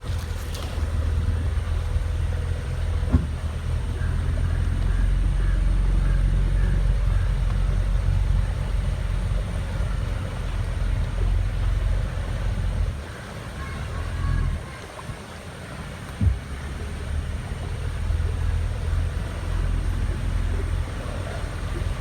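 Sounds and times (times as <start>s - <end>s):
motorboat engine rumbling: 0.0s - 22.0s.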